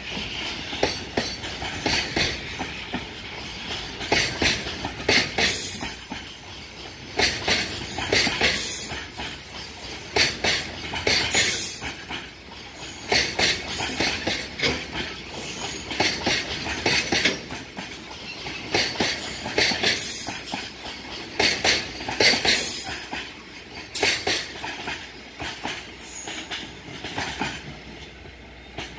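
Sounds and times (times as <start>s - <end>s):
train wheels clacking on track: 0.0s - 28.9s.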